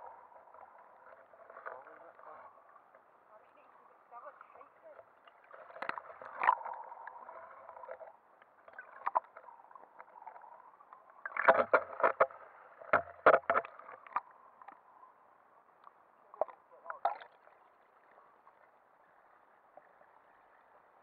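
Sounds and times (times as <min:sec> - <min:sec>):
muffled underwater water noise: 0:00.0 - 0:21.0.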